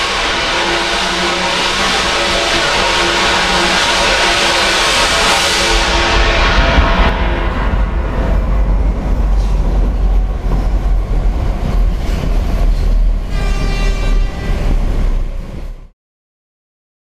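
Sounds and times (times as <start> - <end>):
subway train rumbling: 0.0 - 15.9.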